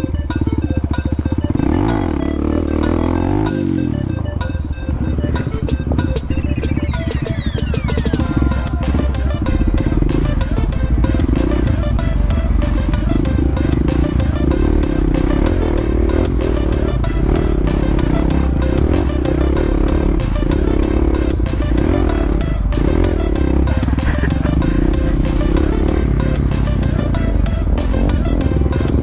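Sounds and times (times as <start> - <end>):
background music: 0.0 - 29.0
dirt bike engine revving: 0.0 - 29.0.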